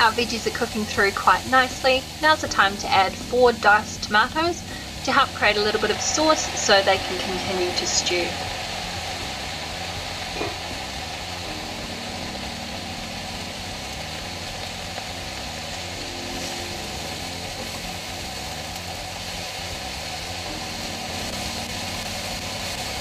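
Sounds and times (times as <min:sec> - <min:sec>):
vegetables sizzling in frying pan: 0:00.0 - 0:23.0.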